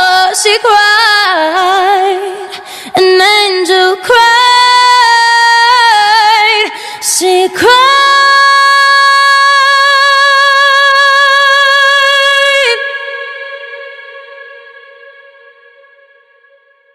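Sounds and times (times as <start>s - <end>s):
woman singing a cappella: 0.0s - 16.6s.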